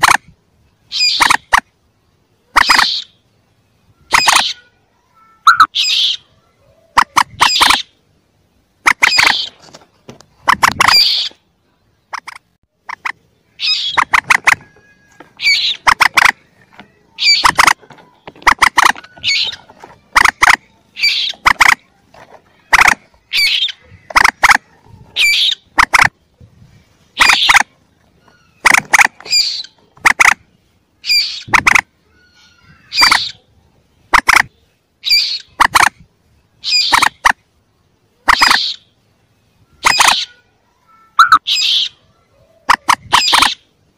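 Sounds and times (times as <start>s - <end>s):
young moorhens squawking: 0.0s - 1.8s, 2.4s - 3.3s, 4.0s - 43.9s.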